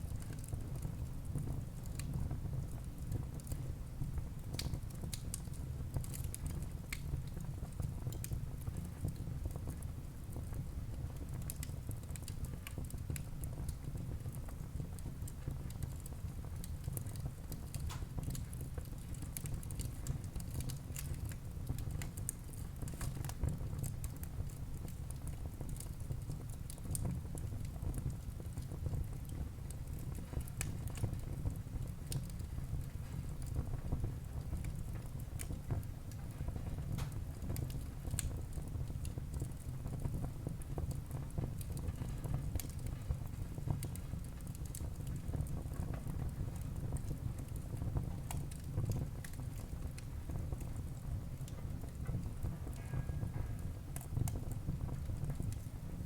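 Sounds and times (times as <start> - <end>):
wood fire burning: 0.0 - 56.0
logs crackling and popping: 0.1 - 3.6, 4.4 - 10.5, 11.2 - 36.3, 36.9 - 52.8.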